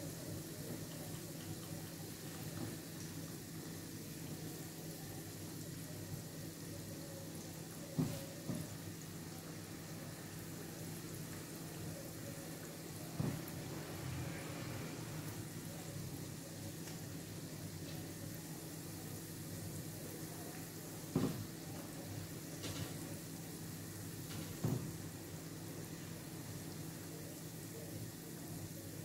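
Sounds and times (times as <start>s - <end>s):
oil sizzling and bubbling: 0.0s - 29.0s.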